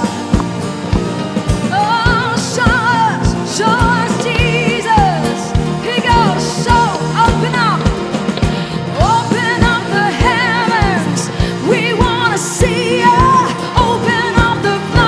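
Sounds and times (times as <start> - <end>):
worship band music: 0.0 - 15.0
person singing with vibrato: 1.7 - 15.0.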